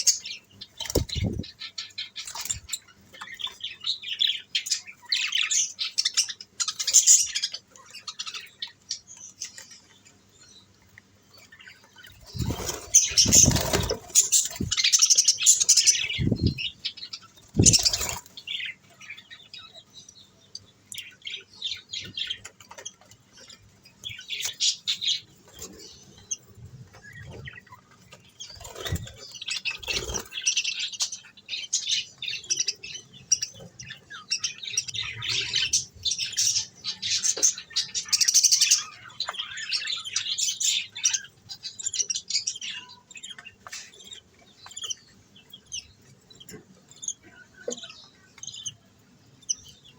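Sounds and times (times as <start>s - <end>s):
budgerigars chirping and squawking: 0.0s - 49.9s.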